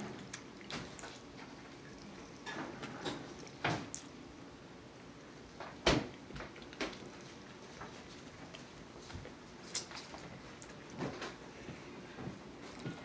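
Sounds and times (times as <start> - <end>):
chewing ribs off the bone: 0.0 - 4.2, 5.1 - 13.0.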